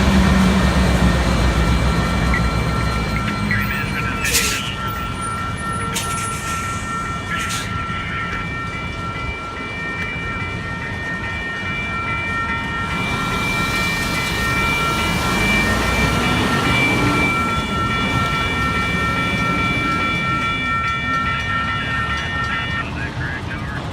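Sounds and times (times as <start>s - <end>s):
crossing signal bell ringing: 0.0s - 23.9s
locomotive engine and wheel noise: 0.0s - 23.9s.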